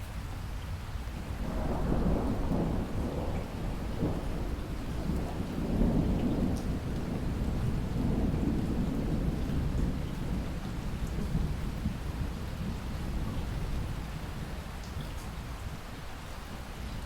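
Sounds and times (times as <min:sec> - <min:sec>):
steady rain: 0:00.0 - 0:17.0
thunder rumbling: 0:01.3 - 0:15.5.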